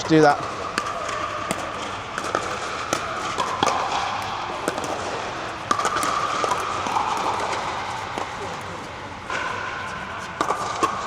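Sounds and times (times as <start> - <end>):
paddles striking plastic ball: 0.0 - 9.7, 10.3 - 11.0
background hubbub: 0.0 - 11.0
ball bouncing on court: 0.0 - 11.0.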